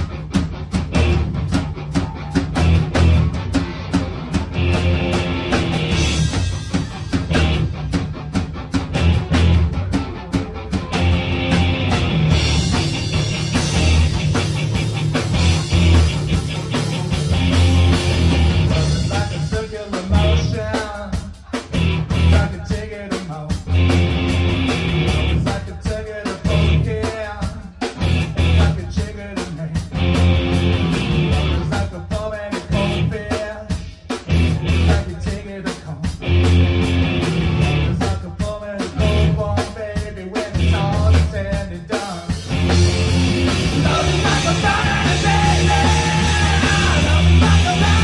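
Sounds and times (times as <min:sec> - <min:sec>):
live rock band playing: 0:00.0 - 0:48.0.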